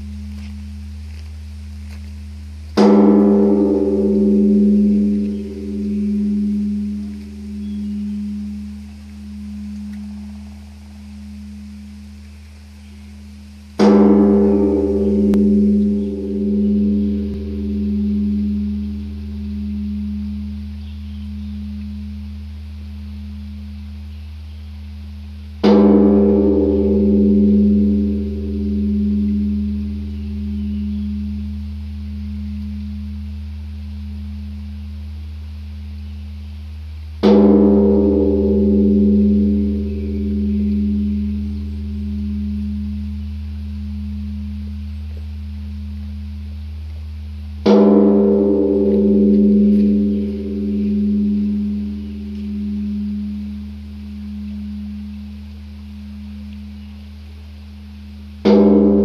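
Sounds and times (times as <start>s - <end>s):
large temple bell ringing: 2.8s - 12.1s, 13.8s - 23.9s, 25.6s - 35.1s, 37.2s - 46.7s, 47.5s - 57.1s, 58.0s - 59.0s.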